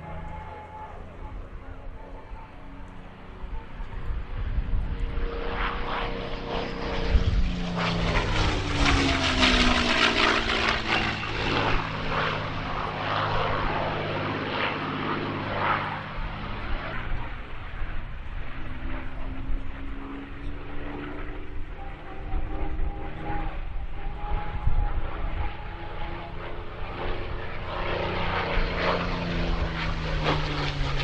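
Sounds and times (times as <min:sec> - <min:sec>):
propeller aircraft flying past: 0:00.0 - 0:31.0.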